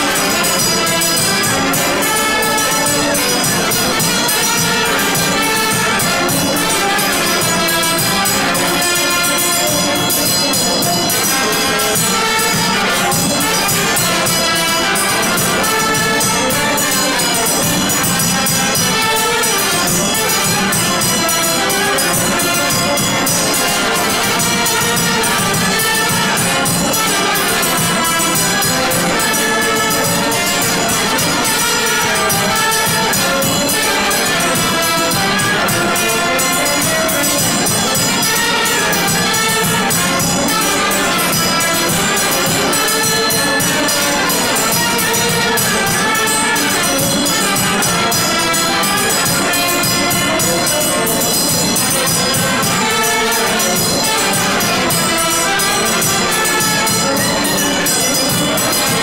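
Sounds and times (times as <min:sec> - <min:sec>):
brass band dance tune: 0:00.0 - 0:59.0.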